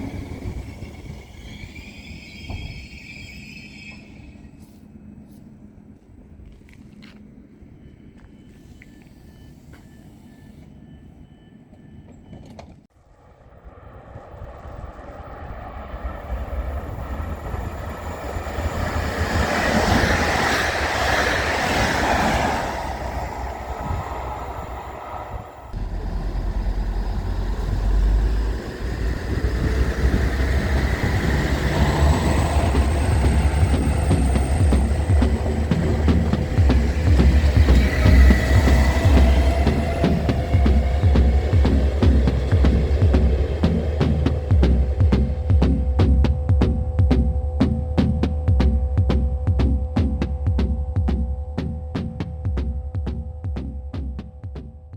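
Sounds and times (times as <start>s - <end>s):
train rumbling past: 0.0s - 54.6s.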